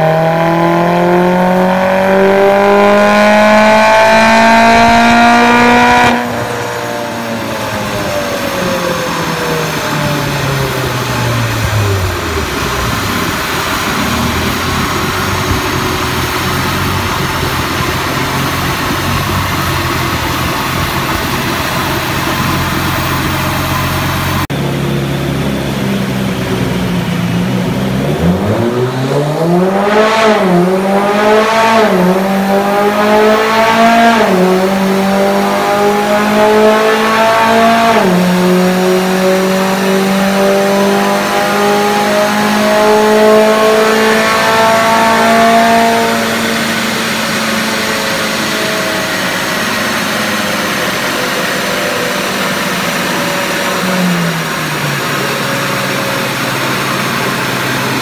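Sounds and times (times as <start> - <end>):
car engine revving on dyno: 0.0 - 58.0.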